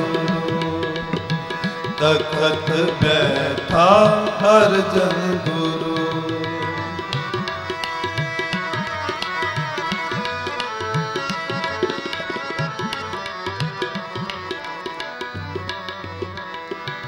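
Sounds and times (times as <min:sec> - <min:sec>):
harmonium melody: 0:00.0 - 0:17.0
tabla fast rhythm: 0:00.0 - 0:17.0.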